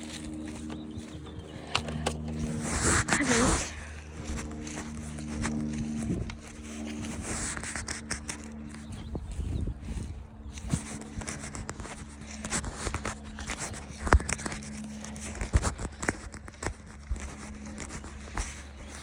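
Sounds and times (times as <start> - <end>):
irregular footsteps: 0.0 - 19.0
steady low hum: 0.0 - 19.0.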